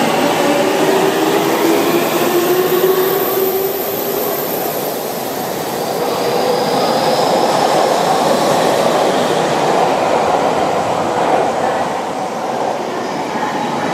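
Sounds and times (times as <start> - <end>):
electric train running past: 0.0 - 13.9.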